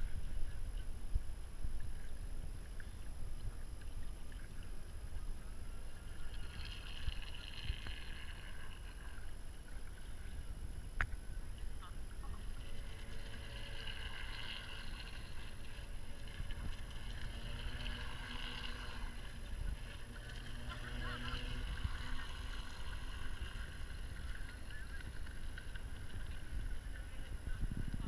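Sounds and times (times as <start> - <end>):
low rumble: 0.0 - 28.0
model boat motor hum: 0.0 - 28.0.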